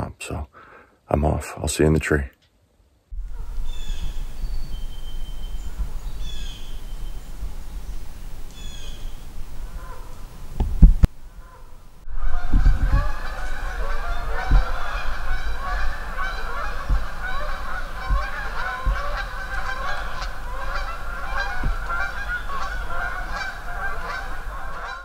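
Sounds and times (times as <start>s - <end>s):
dull low bumps: 3.1s - 25.0s
geese honking: 3.2s - 25.0s.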